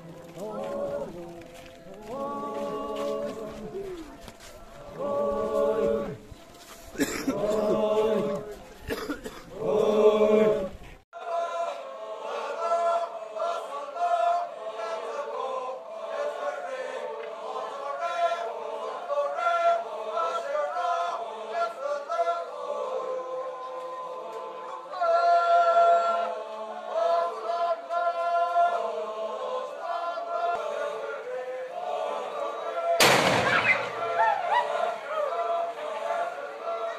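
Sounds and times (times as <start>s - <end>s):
group of voices chanting: 0.0s - 36.9s.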